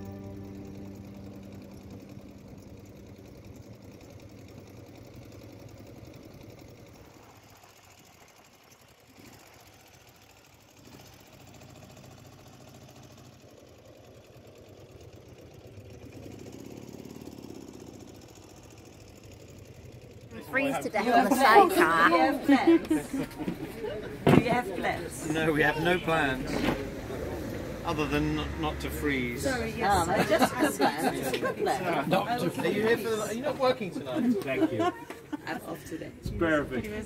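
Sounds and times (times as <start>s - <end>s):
motorcycle engine running: 0.0s - 30.5s.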